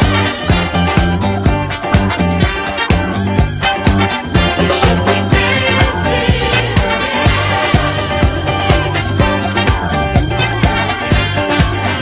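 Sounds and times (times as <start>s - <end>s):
funk disco dance music: 0.0s - 12.0s.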